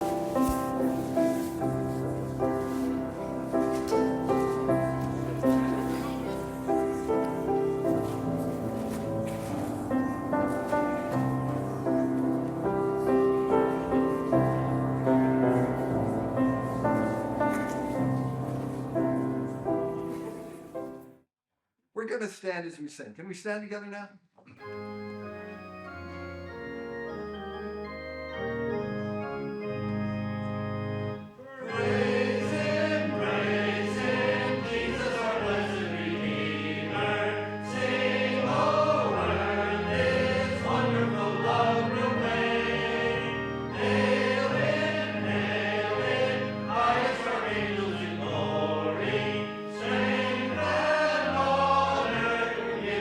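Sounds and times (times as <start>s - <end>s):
congregation singing a hymn: 0.0s - 20.8s, 24.6s - 53.0s
organ chords: 0.0s - 20.8s, 24.6s - 53.0s.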